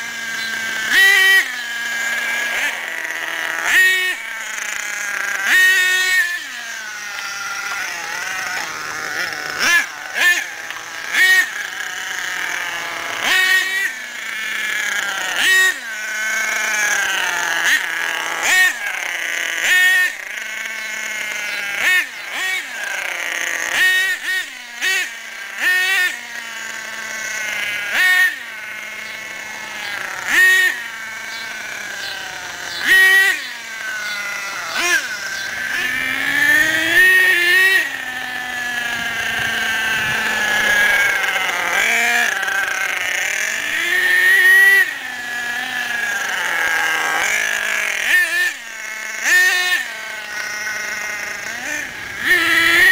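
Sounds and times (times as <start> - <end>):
small model engine revving: 0.0 - 52.9.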